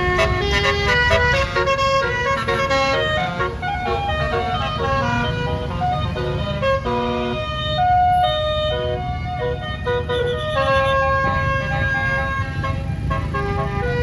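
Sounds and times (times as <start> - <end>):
bus air horn melody: 0.0 - 14.0
bus engine rumble: 0.0 - 14.0.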